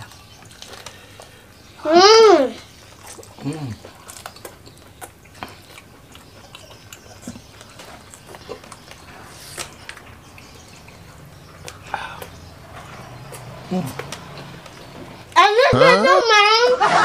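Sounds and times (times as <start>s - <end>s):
chewing with wet mouth clicks: 0.0s - 1.8s, 2.6s - 15.4s.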